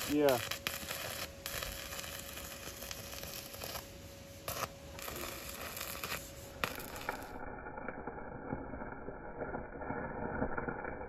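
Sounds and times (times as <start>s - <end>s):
welding arc crackling and sizzling: 0.0s - 11.0s.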